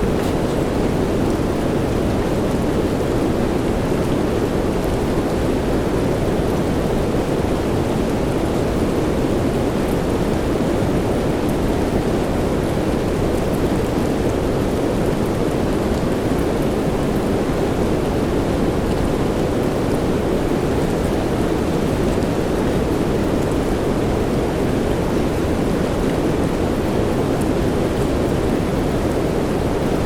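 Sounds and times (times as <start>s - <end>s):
steady soft rain: 0.0s - 30.0s.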